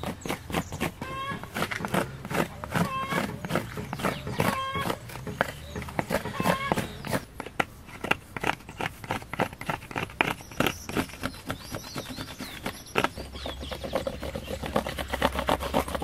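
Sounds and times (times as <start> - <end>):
knife scraping cactus pad: 0.0 - 16.0.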